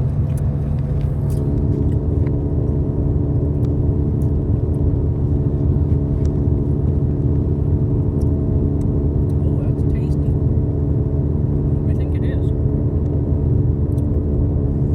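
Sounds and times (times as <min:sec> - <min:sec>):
car engine rumble inside cabin: 0:00.0 - 0:14.9.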